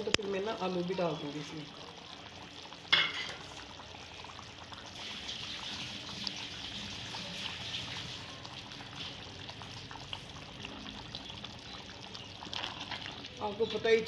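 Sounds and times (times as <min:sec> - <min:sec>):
chicken sizzling in a pot: 0:00.0 - 0:14.0.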